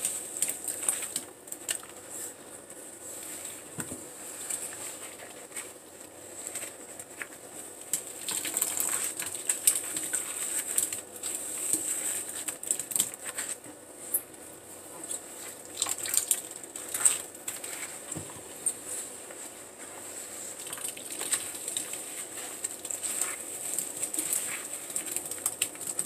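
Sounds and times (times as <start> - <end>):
wet foam squishing and crackling: 0.0 - 2.4, 3.2 - 14.2, 15.0 - 26.0.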